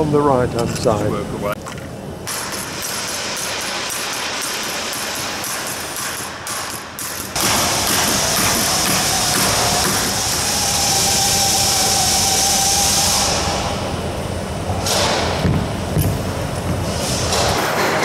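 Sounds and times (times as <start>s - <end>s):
mechanical running noise: 1.8s - 18.0s.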